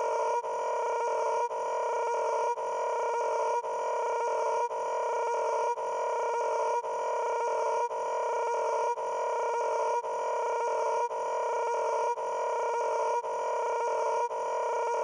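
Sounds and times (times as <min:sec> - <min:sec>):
looping buzzing tone: 0:00.0 - 0:15.0.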